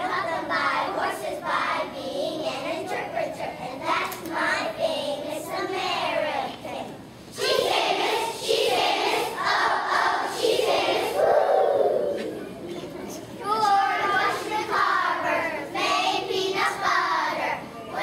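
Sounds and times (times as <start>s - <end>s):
children's choir singing: 0.0s - 12.4s, 13.4s - 18.0s.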